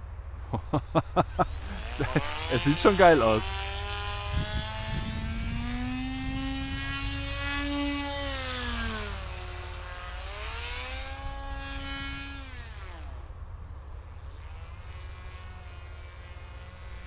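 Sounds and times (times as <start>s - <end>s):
model aircraft motor buzzing: 1.1s - 17.0s.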